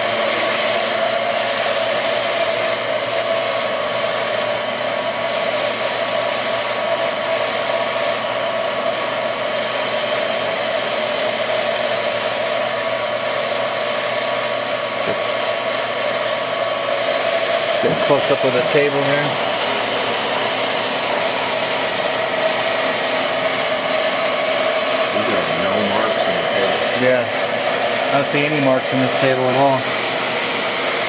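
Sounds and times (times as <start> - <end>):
milling machine whirring: 0.0 - 31.0.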